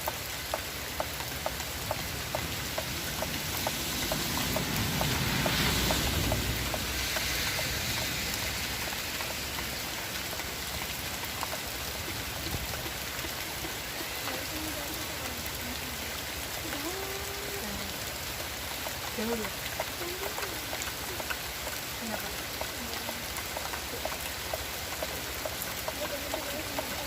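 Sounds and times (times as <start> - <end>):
light ticks: 0.0 - 27.0
steady rain: 0.0 - 27.0.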